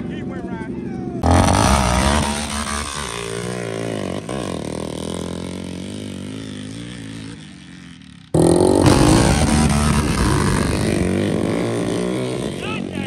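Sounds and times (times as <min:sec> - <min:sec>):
atv engine revving: 0:00.8 - 0:13.0.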